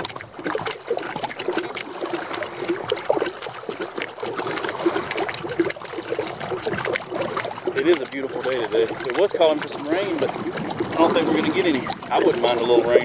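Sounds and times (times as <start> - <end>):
kayak paddle strokes: 0.0 - 13.0
small water splashes: 0.0 - 13.0
trickling and dripping water: 0.0 - 13.0.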